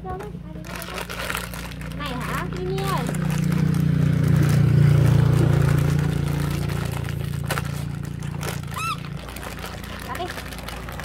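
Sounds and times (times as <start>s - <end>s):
plastic snack bag crinkling: 0.1s - 11.0s
vehicle engine passing: 0.7s - 11.0s.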